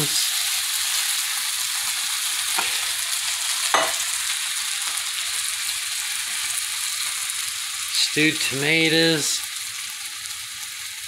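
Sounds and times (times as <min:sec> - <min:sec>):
meat and beans sizzling in a pan: 0:00.0 - 0:11.0.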